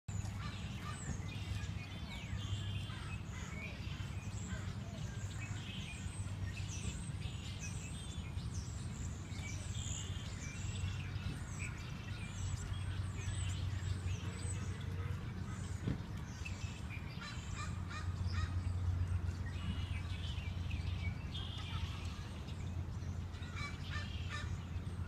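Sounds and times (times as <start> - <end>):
small birds chirping: 0.1 - 25.0.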